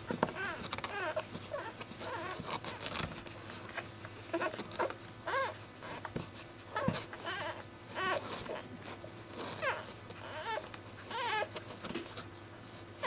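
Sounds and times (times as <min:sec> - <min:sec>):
puppy squeaking and whimpering: 0:00.0 - 0:11.7.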